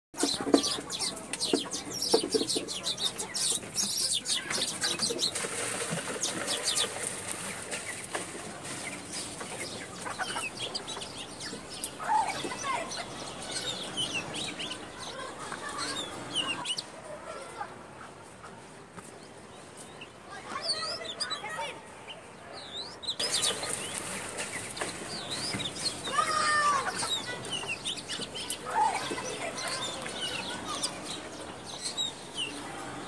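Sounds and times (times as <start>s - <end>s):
birds clucking and chirping: 0.2s - 33.0s.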